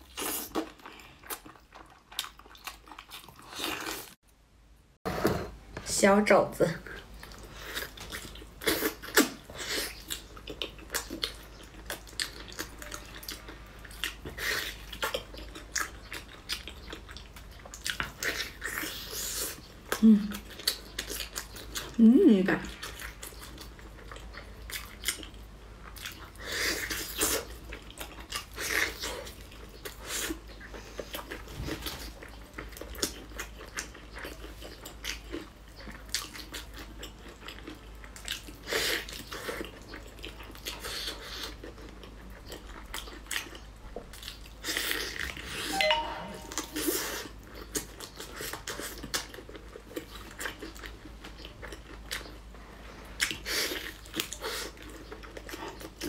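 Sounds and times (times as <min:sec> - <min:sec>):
person chewing wetly: 0:00.0 - 0:04.2, 0:06.9 - 0:22.0, 0:22.6 - 0:45.8, 0:46.8 - 0:56.0.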